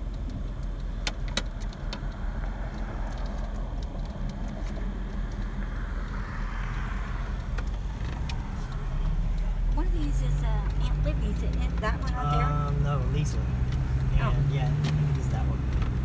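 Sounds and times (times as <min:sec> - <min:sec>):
light clicks or rattles: 0:00.0 - 0:14.1
road and tyre rumble in car: 0:00.0 - 0:16.0.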